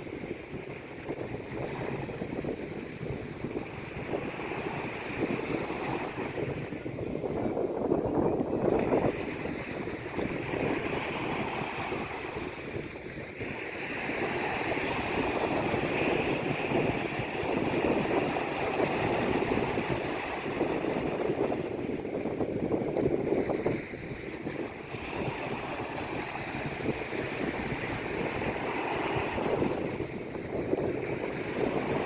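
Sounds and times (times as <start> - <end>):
sea waves washing in: 0.0 - 32.0.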